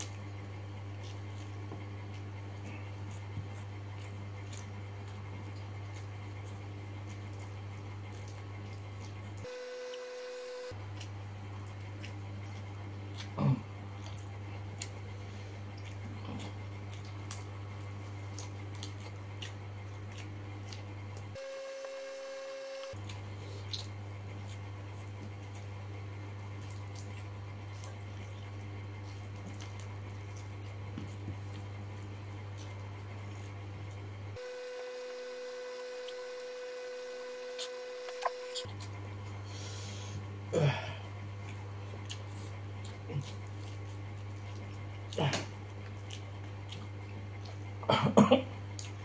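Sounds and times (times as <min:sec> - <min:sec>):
man chewing and lip-smacking: 0:00.0 - 0:09.4, 0:10.6 - 0:21.3, 0:22.8 - 0:25.7, 0:26.4 - 0:34.1, 0:35.9 - 0:39.1, 0:41.3 - 0:47.9, 0:48.6 - 0:49.0
steady low hum: 0:00.0 - 0:49.0.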